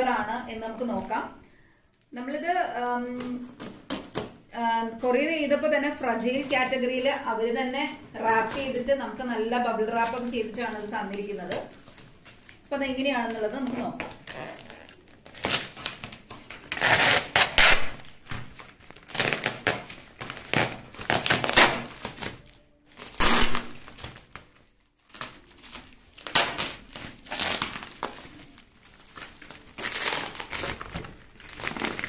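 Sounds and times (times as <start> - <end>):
bubble wrap crinkling: 0.0 - 32.0.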